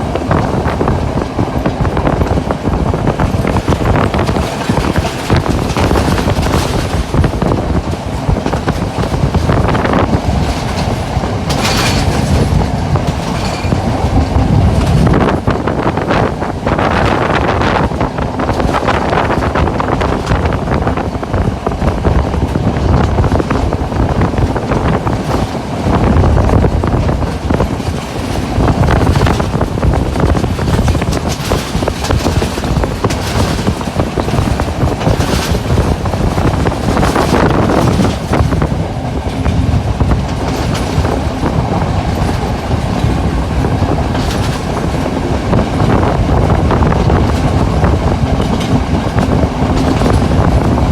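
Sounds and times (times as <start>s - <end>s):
train wheels on track: 0.0s - 50.9s
wheels clattering over rail joints: 0.0s - 50.9s.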